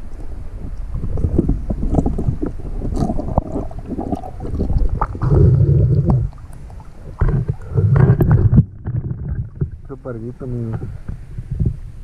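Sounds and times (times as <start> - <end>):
muffled underwater gurgling: 0.0 - 12.0.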